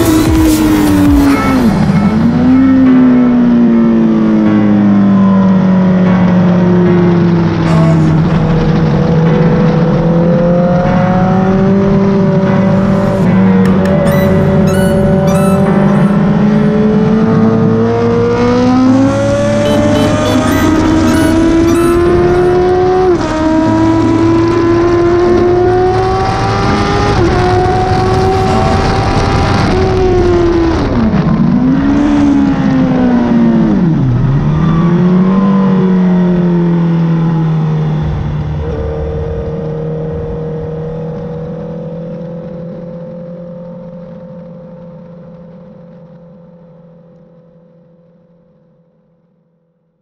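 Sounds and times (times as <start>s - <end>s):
motorcycle engine revving: 0.0s - 42.4s.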